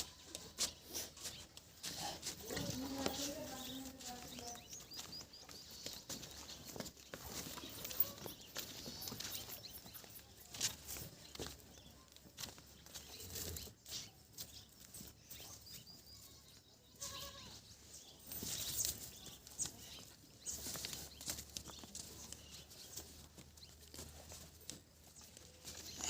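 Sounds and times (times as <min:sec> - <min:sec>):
animals moving: 0:00.0 - 0:26.0.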